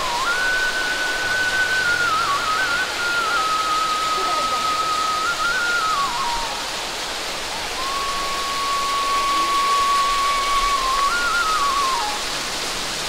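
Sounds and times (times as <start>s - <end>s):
waterfall splashing onto stones: 0.0s - 13.0s.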